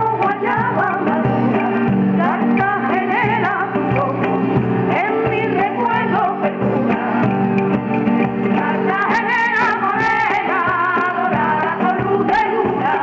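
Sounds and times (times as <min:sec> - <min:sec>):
strummed acoustic guitars: 0:00.0 - 0:13.0
women singing together: 0:00.0 - 0:13.0.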